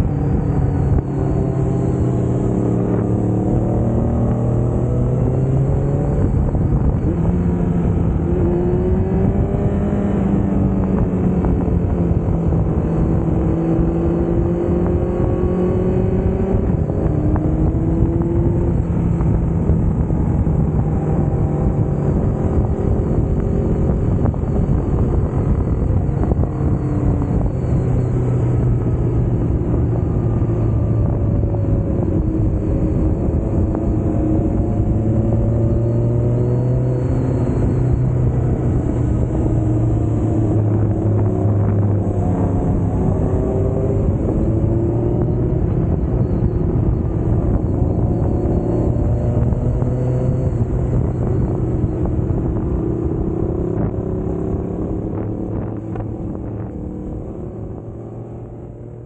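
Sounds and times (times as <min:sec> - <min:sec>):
motorcycle engine revving: 0:00.0 - 0:59.0
wind rush on microphone: 0:00.0 - 0:59.0.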